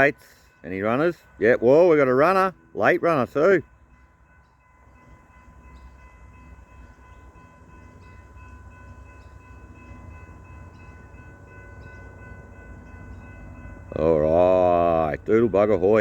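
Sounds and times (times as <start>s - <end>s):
approaching train rumble: 0.0s - 16.0s
level crossing bell ringing: 0.0s - 16.0s.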